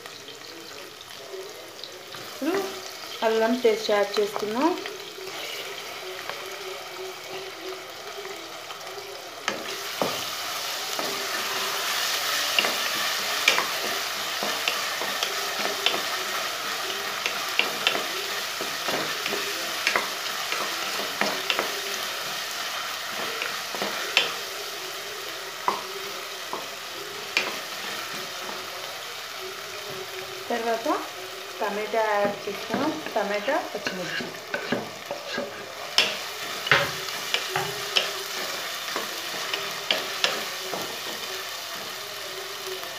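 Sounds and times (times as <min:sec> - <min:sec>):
onions sizzling in hot oil: 0:00.0 - 0:42.9.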